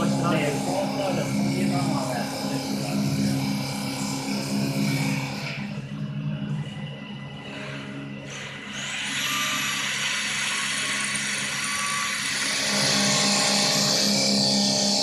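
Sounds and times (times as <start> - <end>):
high whine: 0.0 - 15.0
lathe motor hum: 0.0 - 15.0.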